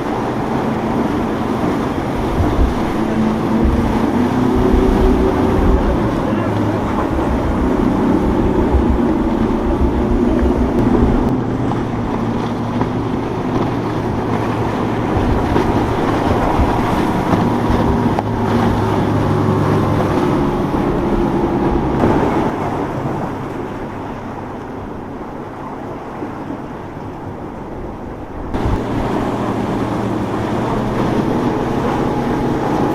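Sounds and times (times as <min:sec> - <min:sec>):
motorboat engines droning: 0:00.0 - 0:32.9
wind on microphone: 0:00.0 - 0:32.9.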